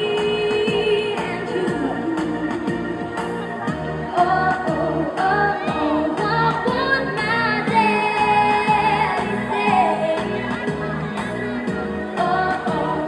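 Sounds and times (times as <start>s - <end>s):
girl singing pop song: 0.0s - 3.1s, 4.1s - 13.0s
backing track with beat: 0.0s - 13.0s.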